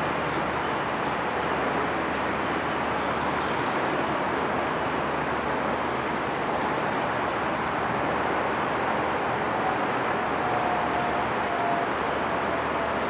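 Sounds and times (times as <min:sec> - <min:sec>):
boats over water: 0:00.0 - 0:13.0
distant city traffic rumble: 0:00.0 - 0:13.0.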